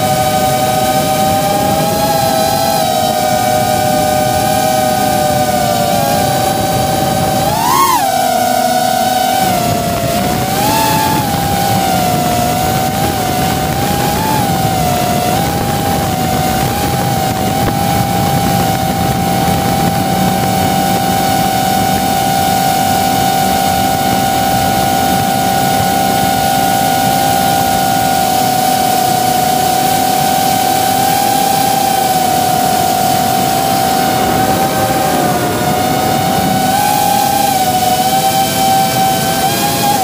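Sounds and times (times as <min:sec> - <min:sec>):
drone motors whining: 0:00.0 - 0:40.0.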